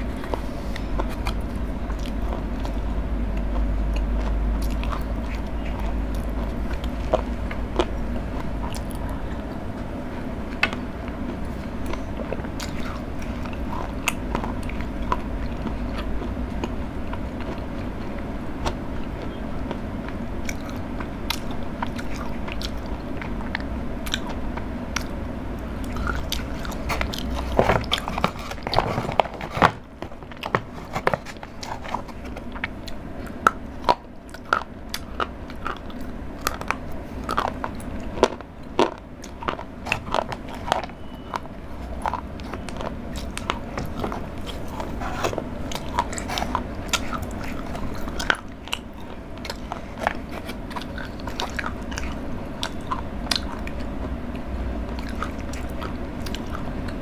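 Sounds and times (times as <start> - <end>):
chewing and crunching chocolate: 0.0 - 57.0
steady low hum: 0.0 - 57.0.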